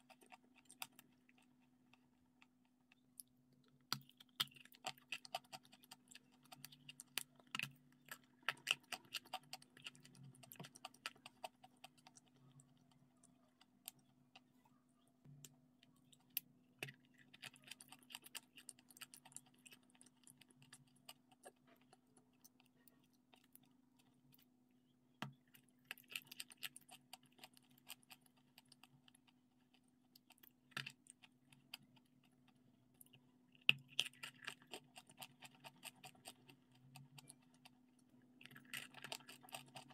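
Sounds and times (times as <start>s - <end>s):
mouth chewing and smacking: 0.0s - 24.5s, 25.2s - 39.9s
faint steady hum: 0.0s - 39.9s.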